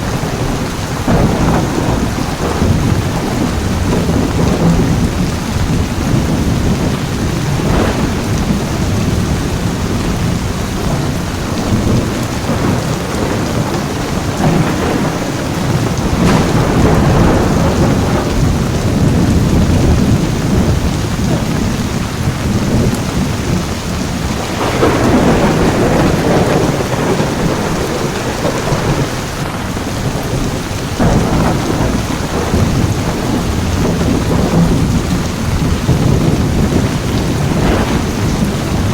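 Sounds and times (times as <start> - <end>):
heavy rain: 0.0 - 38.9
thunder rolling: 0.0 - 38.9.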